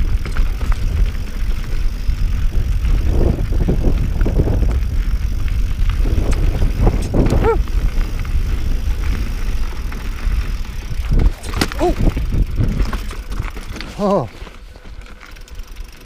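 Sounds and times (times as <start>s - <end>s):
wind rumble on microphone: 0.0s - 14.0s
bike tyres and frame rattling: 0.0s - 16.0s.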